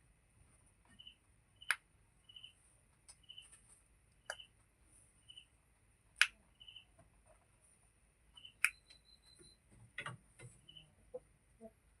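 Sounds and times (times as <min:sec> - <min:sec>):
small birds chirping: 0:00.9 - 0:05.6, 0:06.2 - 0:07.4, 0:08.2 - 0:11.9.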